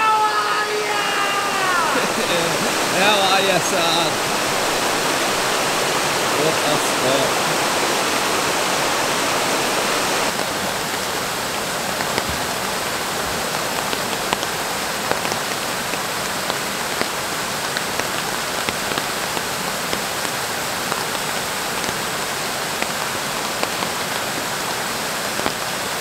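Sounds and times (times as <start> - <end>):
rain falling on water: 0.0 - 26.0
waterfall rushing: 0.0 - 26.0.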